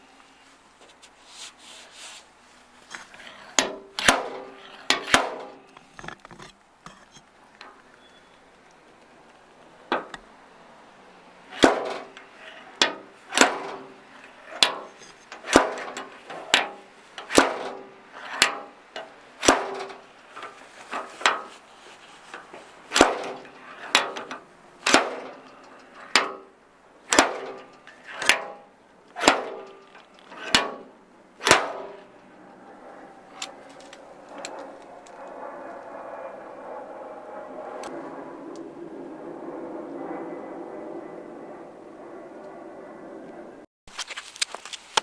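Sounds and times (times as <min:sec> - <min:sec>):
faint steady rumble: 0:00.0 - 0:43.7.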